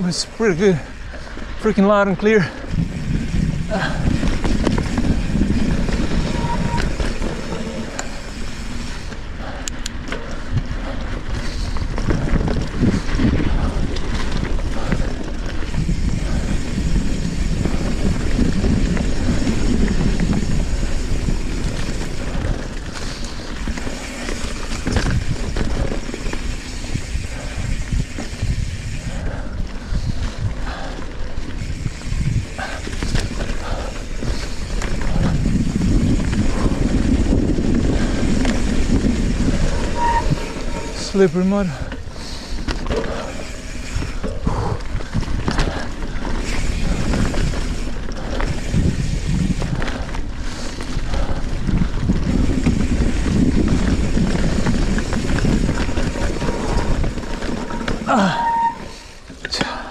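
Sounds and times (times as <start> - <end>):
bike freehub buzzing: 0.0 - 59.9
bike rattling over bumps: 0.0 - 59.9
bike tyres rolling rumble: 0.0 - 59.9.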